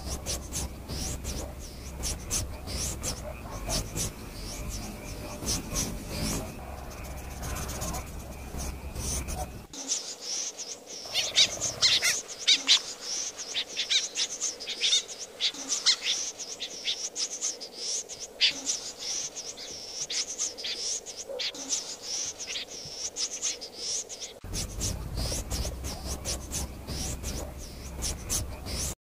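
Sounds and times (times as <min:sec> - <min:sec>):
snipe high chirping calls: 0:00.0 - 0:29.0.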